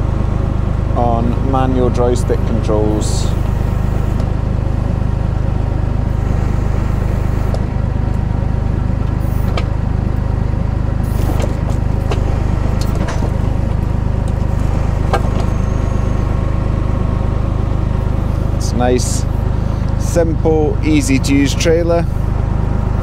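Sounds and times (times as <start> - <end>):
tractor engine droning: 0.0 - 23.0.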